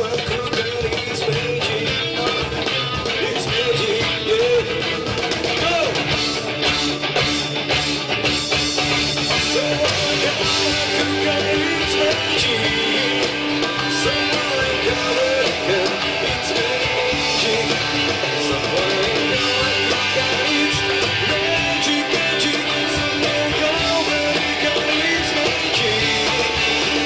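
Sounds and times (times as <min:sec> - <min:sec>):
electric guitar: 0:00.0 - 0:27.0
live band playing pop: 0:00.0 - 0:27.0.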